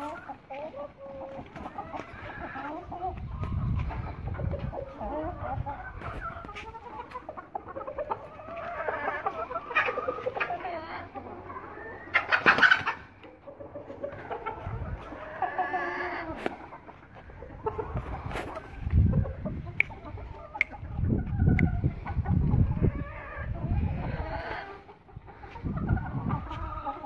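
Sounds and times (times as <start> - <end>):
chickens clucking and calling: 0.0 - 27.0.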